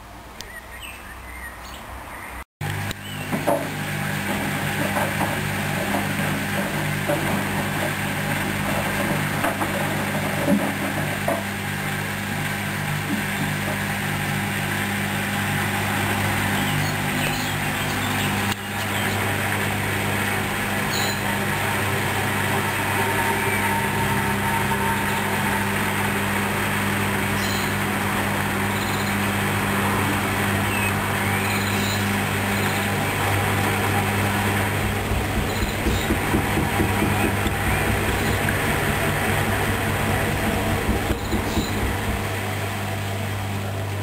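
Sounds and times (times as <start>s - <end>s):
washing machine motor hum: 2.6s - 44.0s
washing machine drum noise: 3.0s - 43.6s.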